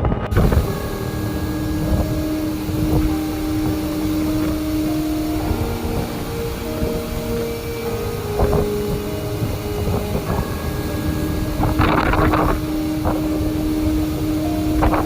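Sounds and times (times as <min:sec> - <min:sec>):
steady droning tones: 0:00.0 - 0:15.0
strong wind gusting on microphone: 0:00.0 - 0:15.0.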